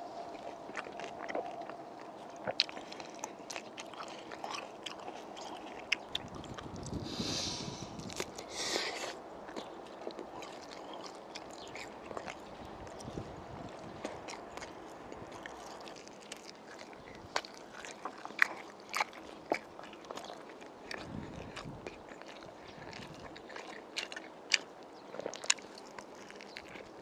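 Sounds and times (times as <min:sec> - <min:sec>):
person chewing wetly: 0:00.0 - 0:27.0.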